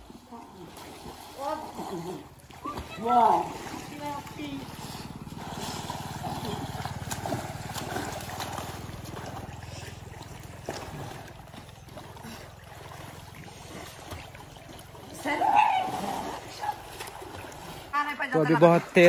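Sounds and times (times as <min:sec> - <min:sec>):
swimmers splashing in water: 0:00.0 - 0:19.0.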